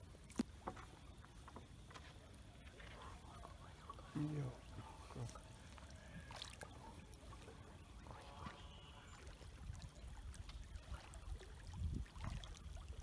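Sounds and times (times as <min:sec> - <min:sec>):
river water trickling: 0:00.0 - 0:13.0.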